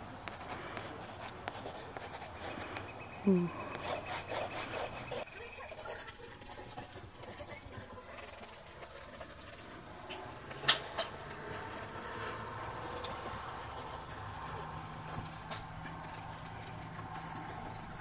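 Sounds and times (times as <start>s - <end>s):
pencil scratching on paper: 0.2s - 2.6s, 3.7s - 9.8s, 10.4s - 15.3s, 16.0s - 18.0s.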